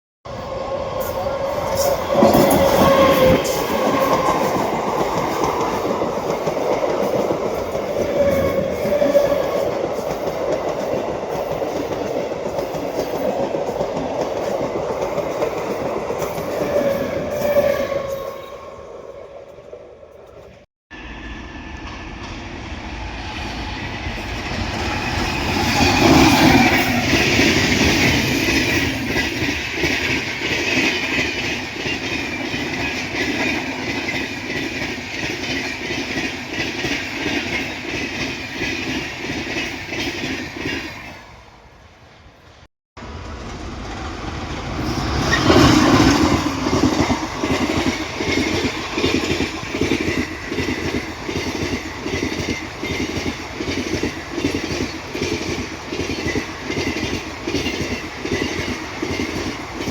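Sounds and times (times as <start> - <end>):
train wheels clattering on rails: 1.1 - 17.7, 24.1 - 41.1, 43.2 - 59.9.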